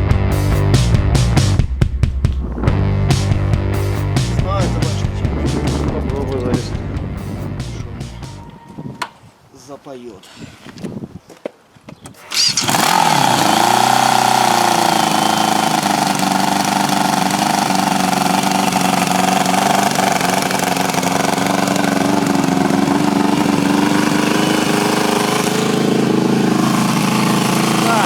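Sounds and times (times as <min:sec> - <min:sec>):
motorcycle engine starting and running: 0:00.0 - 0:08.4, 0:12.1 - 0:28.0.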